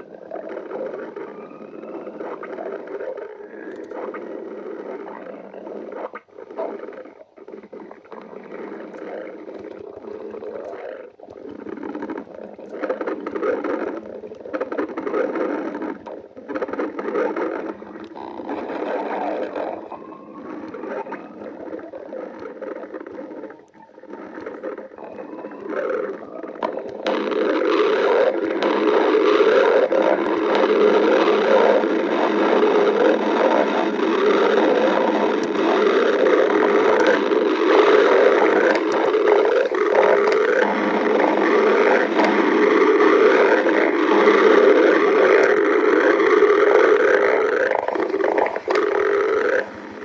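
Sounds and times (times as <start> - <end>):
stomach growling and gurgling: 0.0 - 50.0.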